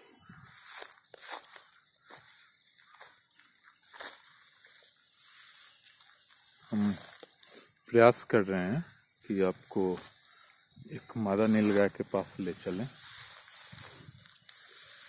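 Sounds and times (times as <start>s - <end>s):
footsteps through tall grass: 0.0s - 15.0s.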